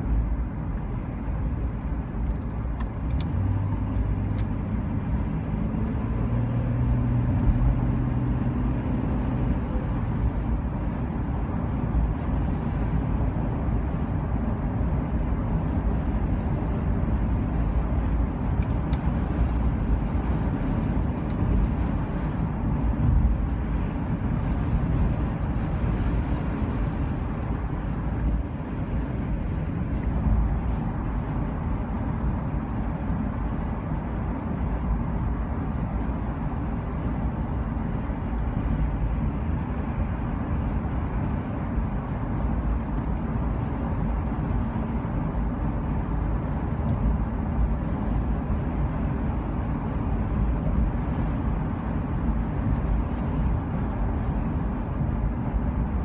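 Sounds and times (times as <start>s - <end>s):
vehicle rumbling in motion: 0.0s - 56.0s.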